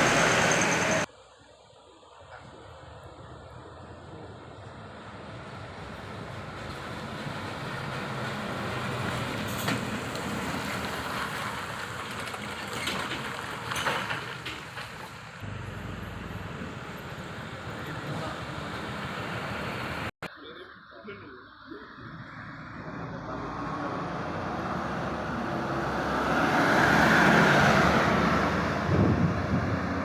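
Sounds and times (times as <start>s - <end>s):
heavy trucks driving: 0.0s - 20.2s, 22.0s - 30.0s.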